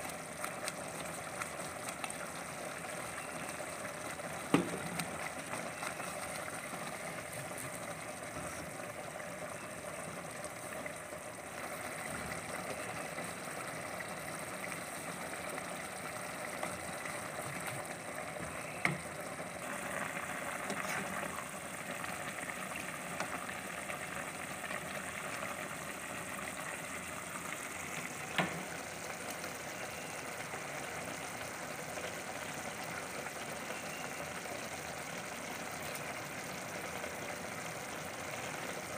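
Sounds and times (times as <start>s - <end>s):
sauce simmering and bubbling: 0.0s - 38.9s.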